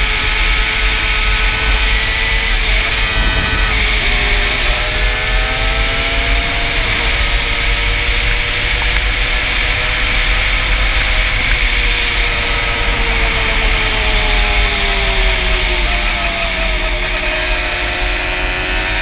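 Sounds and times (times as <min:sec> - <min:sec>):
quad bike engine under throttle: 0:00.0 - 0:19.0
wind buffeting microphone: 0:00.0 - 0:19.0.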